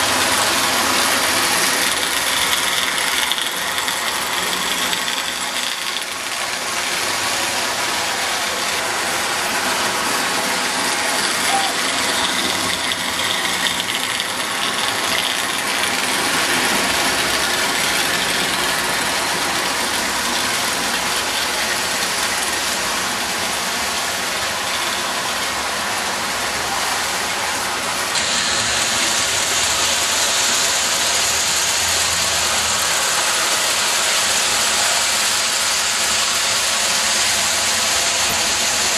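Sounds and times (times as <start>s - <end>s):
toy train motor whirring: 0.0s - 38.9s
wheels clattering on rails: 0.0s - 38.9s.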